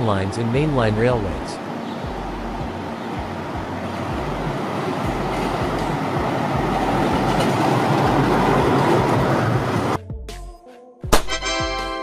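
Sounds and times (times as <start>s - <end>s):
tram wheels running on rails: 0.0s - 10.0s.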